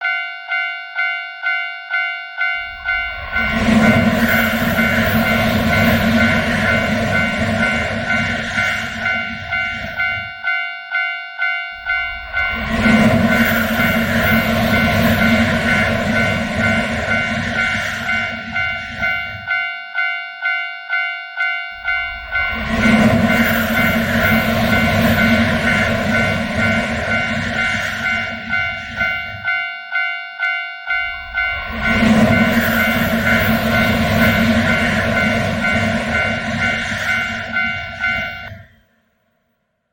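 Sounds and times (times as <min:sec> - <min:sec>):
level crossing bell ringing: 0:00.0 - 0:38.6
train passing with loud rumble: 0:02.4 - 0:10.6, 0:11.7 - 0:20.6, 0:21.7 - 0:39.3.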